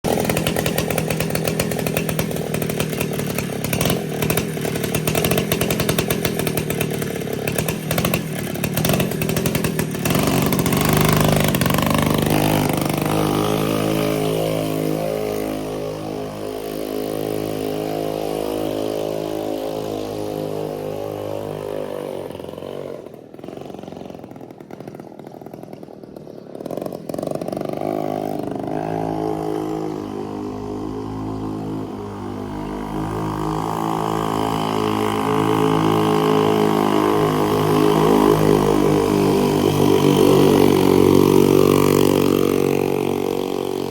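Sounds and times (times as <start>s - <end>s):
mini bike engine revving and idling: 0.0s - 43.9s.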